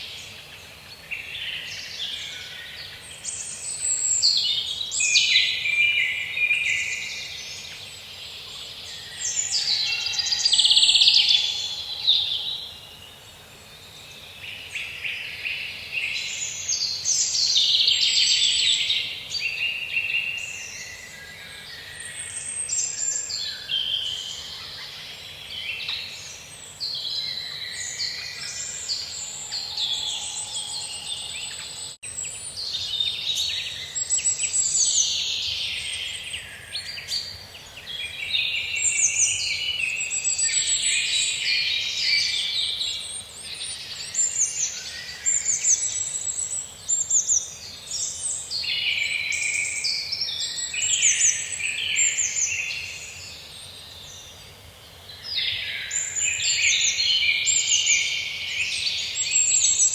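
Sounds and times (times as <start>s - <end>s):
birds singing: 0.0s - 59.9s
faint steady hiss: 0.0s - 59.9s.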